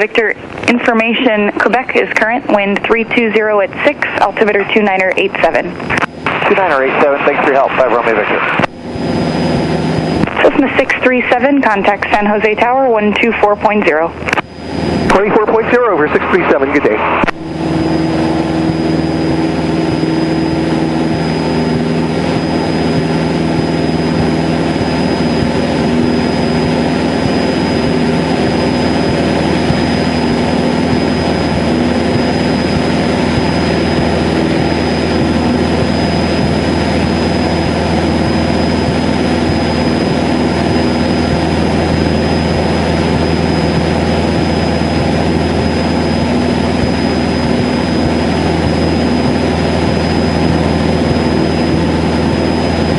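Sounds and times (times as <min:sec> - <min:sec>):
aircraft engine and propeller running: 0:00.0 - 0:52.9
thin high whine: 0:00.0 - 0:52.9.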